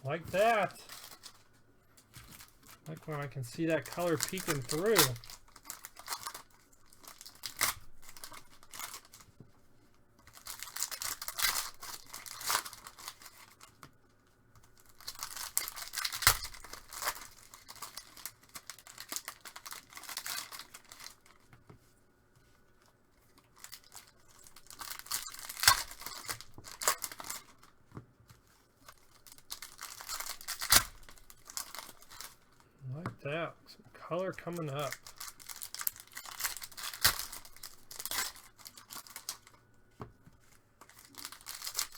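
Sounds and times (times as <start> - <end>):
cards being handled: 0.0 - 9.7, 14.6 - 41.9
wrappers tearing and crinkling: 0.2 - 13.9, 14.6 - 21.5, 22.6 - 27.8, 28.4 - 32.7, 34.2 - 39.7, 40.4 - 41.9.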